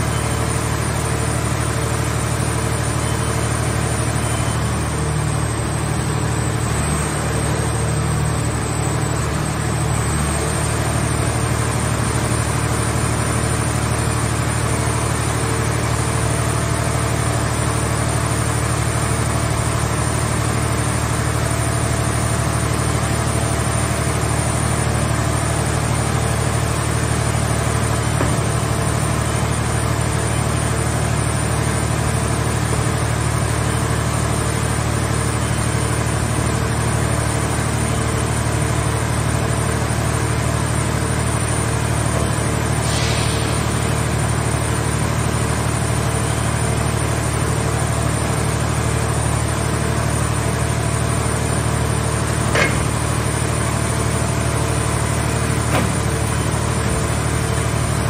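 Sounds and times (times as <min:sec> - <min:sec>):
hydraulic power unit droning: 0:00.0 - 0:58.0.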